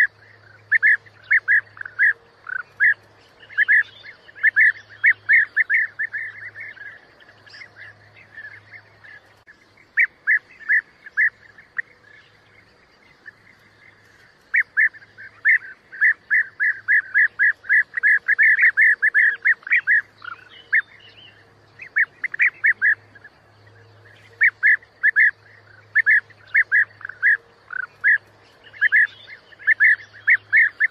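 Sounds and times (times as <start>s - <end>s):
birds calling: 0.0s - 30.9s.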